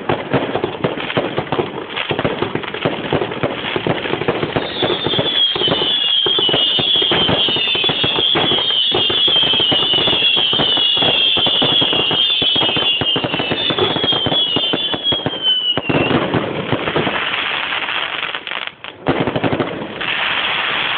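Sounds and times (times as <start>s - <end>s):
fireworks barrage with whistles: 0.0s - 20.9s.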